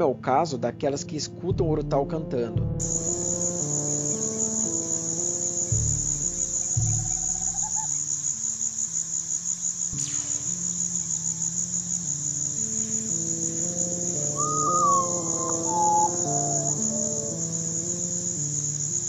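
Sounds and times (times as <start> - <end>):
background music low notes: 0.0 - 19.0
crickets chirring: 2.8 - 19.0.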